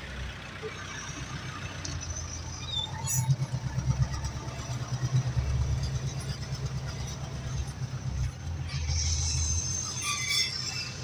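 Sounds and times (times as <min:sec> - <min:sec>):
tractor diesel engine throbbing: 0:00.0 - 0:11.0.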